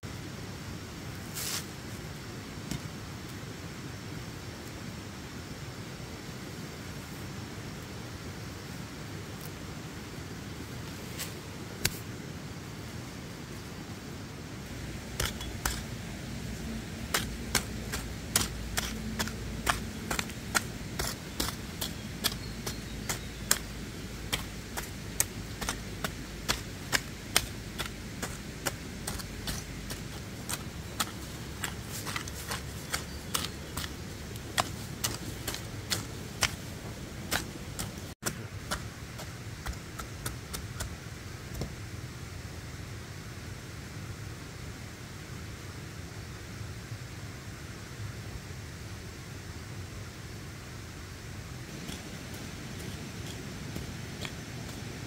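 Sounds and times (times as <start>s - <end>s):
low background hum: 1.9s - 46.5s.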